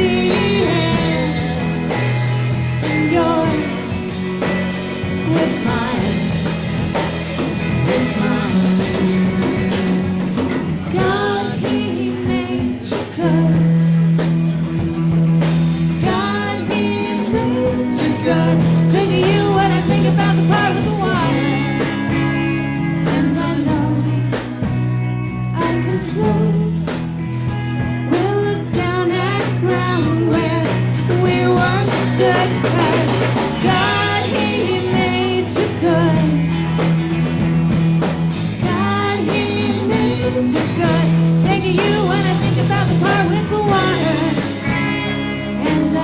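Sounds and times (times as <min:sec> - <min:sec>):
person singing: 0:00.0 - 0:14.0, 0:15.9 - 0:22.2, 0:22.9 - 0:24.4, 0:25.5 - 0:27.0, 0:28.1 - 0:36.9, 0:38.6 - 0:46.0
live rock band playing: 0:00.0 - 0:46.0.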